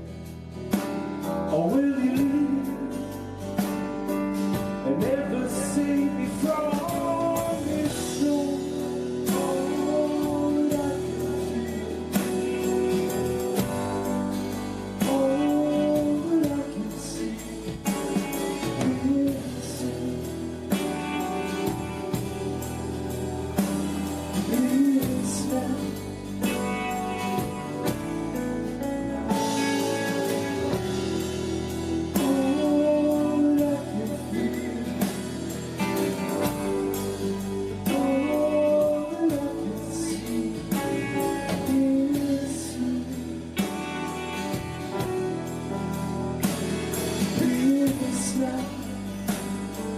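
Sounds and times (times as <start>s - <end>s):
bending lead guitar melody: 0.0s - 49.9s
live rock band playing: 0.0s - 49.9s.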